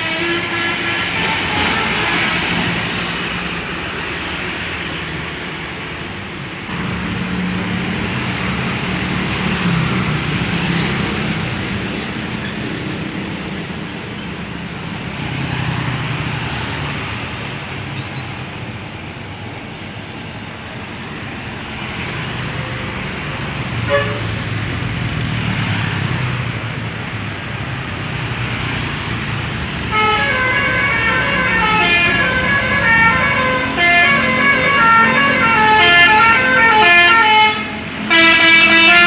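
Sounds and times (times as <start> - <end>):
bus diesel engines running: 0.0 - 39.0
traffic noise: 0.0 - 39.0.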